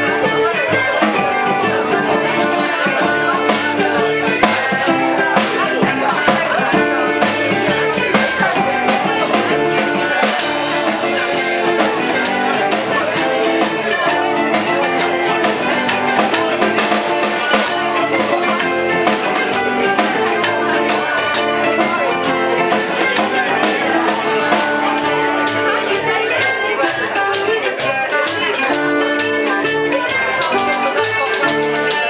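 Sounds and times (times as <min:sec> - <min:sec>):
acoustic guitar: 0:00.0 - 0:32.0
double bass: 0:00.0 - 0:32.0
drum kit: 0:00.0 - 0:32.0
mandolin: 0:00.0 - 0:32.0.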